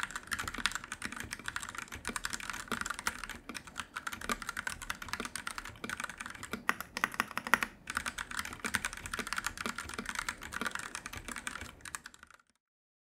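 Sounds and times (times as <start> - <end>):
mechanical keyboard typing: 0.0 - 12.6.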